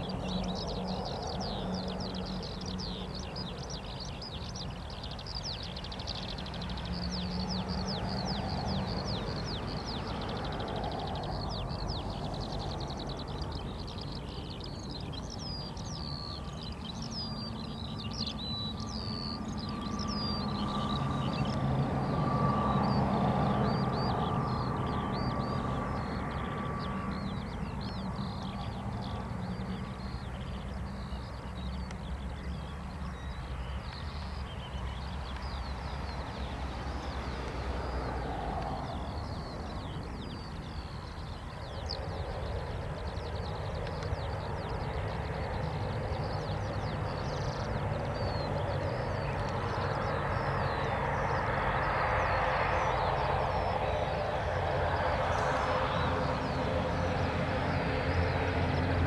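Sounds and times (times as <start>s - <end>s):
distant airliner engines rumbling: 0.0s - 59.0s
small birds chirping: 0.0s - 59.0s.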